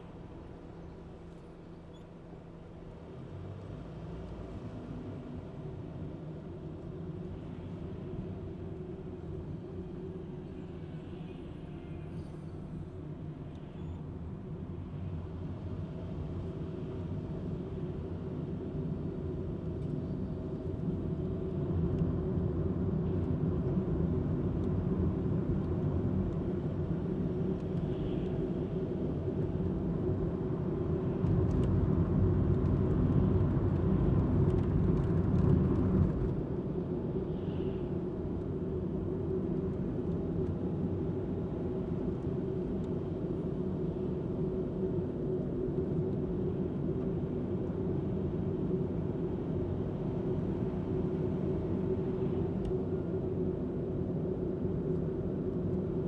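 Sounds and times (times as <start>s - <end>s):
car interior engine and tyre rumble: 0.0s - 56.0s.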